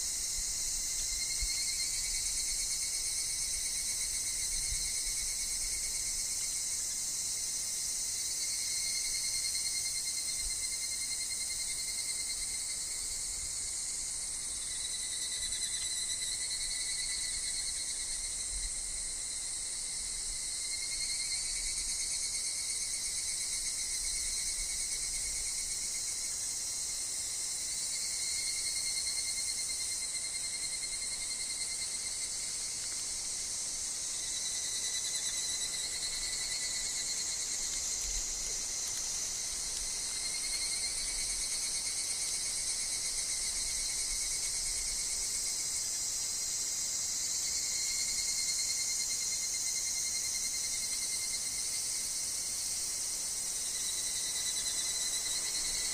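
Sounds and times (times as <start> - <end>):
cicadas and insects calling: 0.0 - 55.9.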